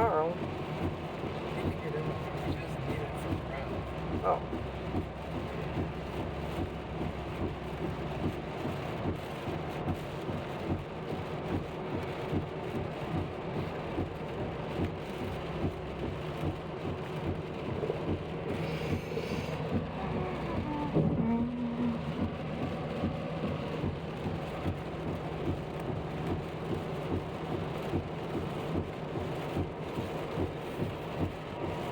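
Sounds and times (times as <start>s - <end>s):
road and tyre noise: 0.0s - 31.9s.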